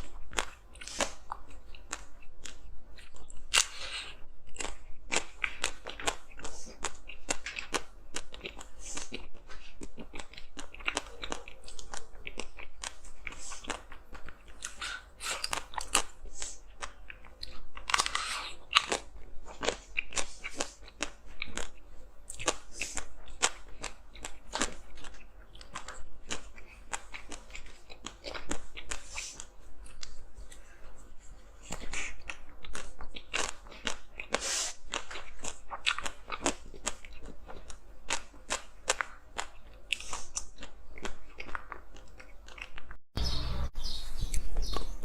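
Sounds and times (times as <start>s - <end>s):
chewing hard ice: 0.0s - 43.0s.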